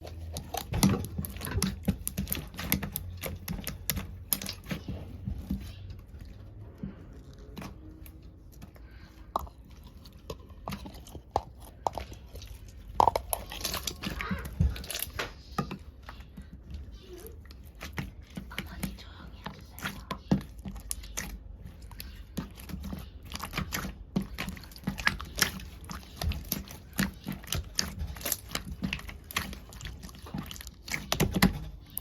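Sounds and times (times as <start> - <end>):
hands squishing slime: 0.0 - 32.0.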